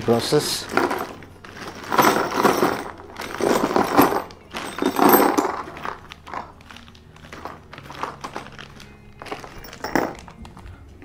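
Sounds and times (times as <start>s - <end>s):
plastic bag crinkling: 0.1s - 10.8s
screws and fittings clinking onto cardboard: 0.2s - 10.5s.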